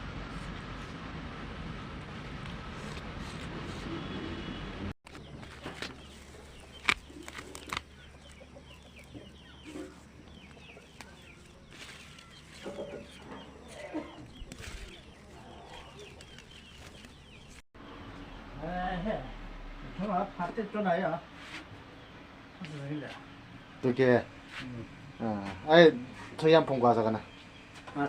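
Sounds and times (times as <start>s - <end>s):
low steady hum: 0.0s - 26.2s
birds chirping: 2.8s - 28.0s.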